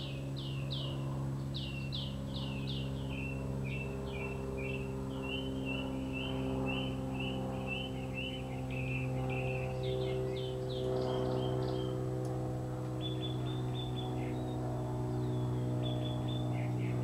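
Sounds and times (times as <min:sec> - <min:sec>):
songbird singing: 0:00.0 - 0:17.0
steady low hum: 0:00.0 - 0:17.0.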